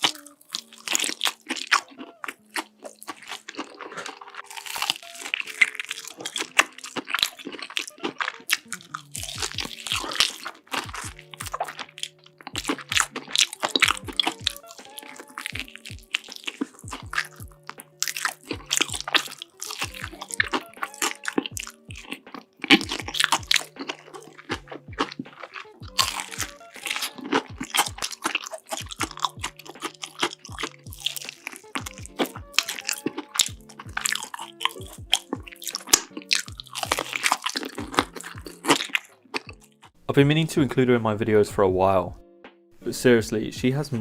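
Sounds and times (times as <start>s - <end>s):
crunchy food chewing: 0.0s - 40.0s
soft background music: 0.0s - 44.0s.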